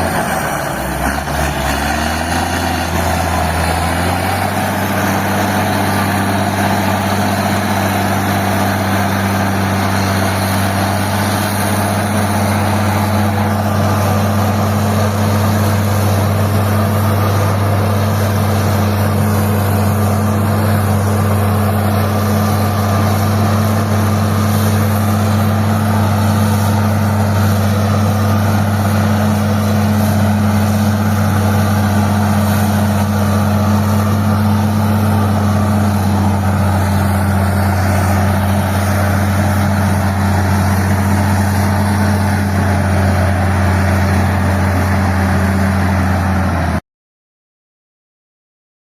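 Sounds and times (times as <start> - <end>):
diesel engine rumbling: 0.0 - 46.8.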